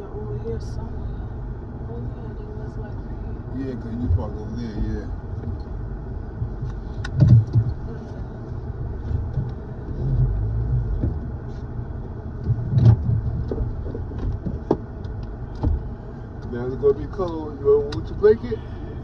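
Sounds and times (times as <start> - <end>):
car rumble inside cabin: 0.0 - 19.0.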